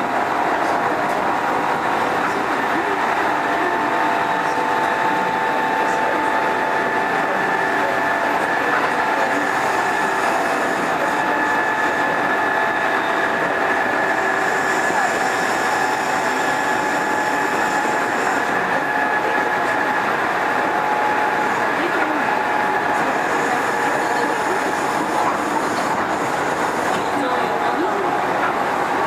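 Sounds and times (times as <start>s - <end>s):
steady train whine: 0.0s - 29.0s.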